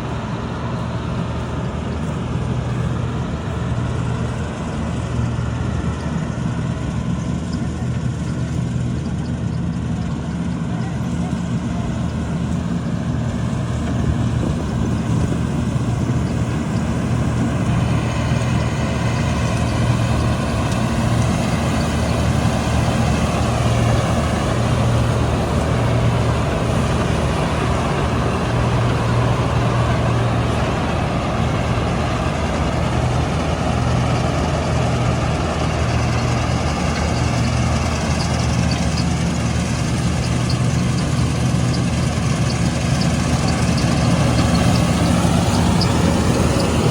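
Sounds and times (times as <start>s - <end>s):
diesel engine humming: 0.0s - 46.9s
machinery noise: 0.0s - 46.9s.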